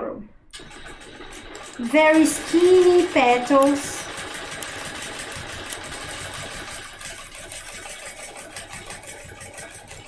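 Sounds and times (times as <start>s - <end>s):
sewing machine stitching: 0.6s - 10.0s.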